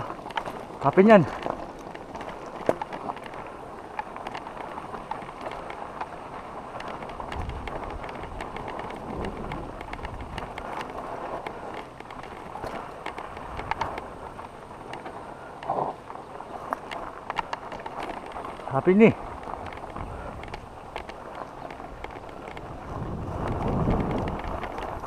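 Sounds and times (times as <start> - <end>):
bike clicks and rattles: 0.0 - 25.0
bike tyres crunching on gravel: 0.0 - 25.0.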